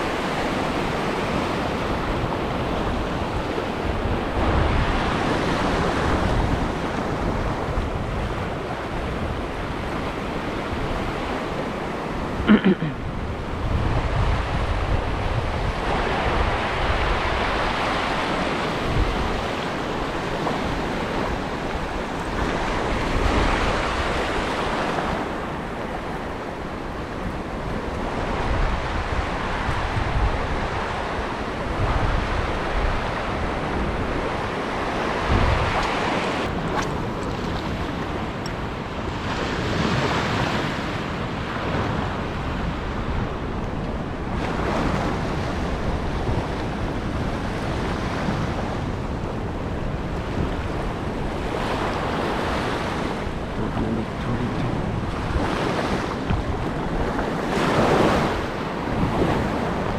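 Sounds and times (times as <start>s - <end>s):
waves breaking over reef: 0.0s - 59.9s
wind buffeting microphone: 0.0s - 59.9s.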